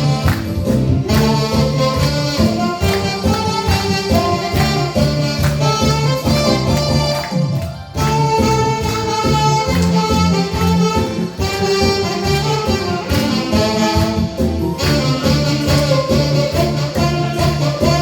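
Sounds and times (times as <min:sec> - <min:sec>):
steady drum beat: 0:00.0 - 0:07.2, 0:08.0 - 0:18.0
bass: 0:00.0 - 0:18.0
saxophones playing melody: 0:00.0 - 0:18.0.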